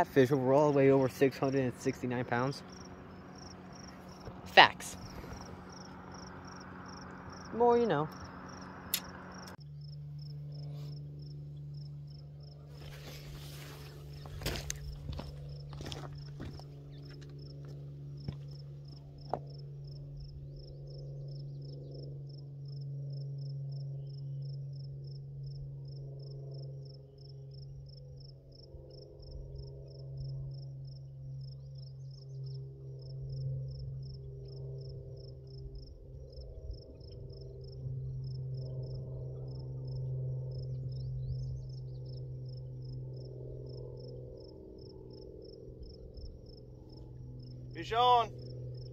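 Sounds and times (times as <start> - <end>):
crickets chirping: 0.0 - 48.9
low steady hum: 0.0 - 48.9.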